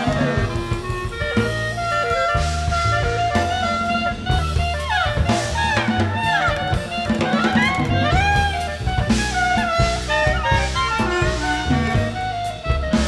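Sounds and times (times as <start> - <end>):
bass line: 0.0 - 13.0
drum kit with cymbals: 0.0 - 13.0
saxophone and brass: 0.0 - 13.0.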